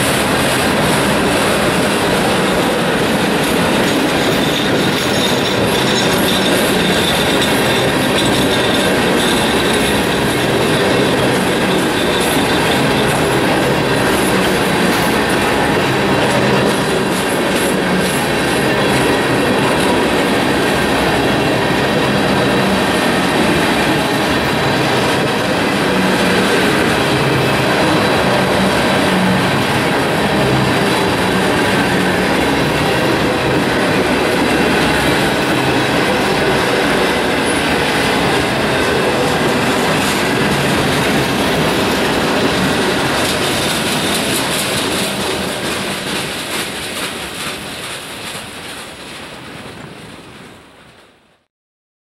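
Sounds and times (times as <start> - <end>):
train wheels clattering over rail joints: 0.0 - 51.2.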